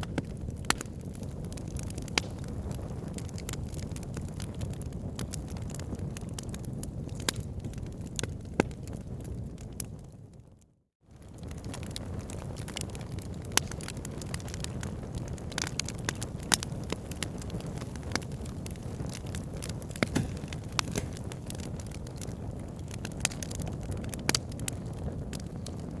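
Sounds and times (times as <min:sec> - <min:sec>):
fire crackling and popping: 0:00.0 - 0:10.4, 0:11.1 - 0:26.0.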